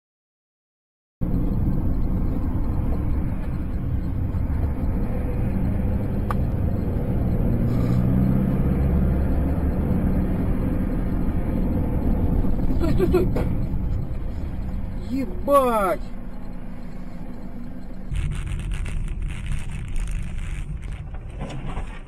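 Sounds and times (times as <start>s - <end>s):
vehicle engine and road rumble: 1.2s - 22.0s.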